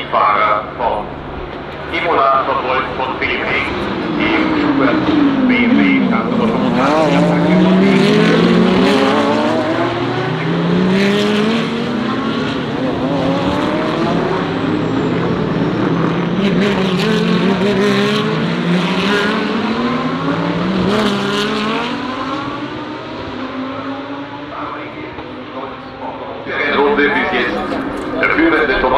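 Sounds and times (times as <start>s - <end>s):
race cars accelerating: 0.0s - 28.9s.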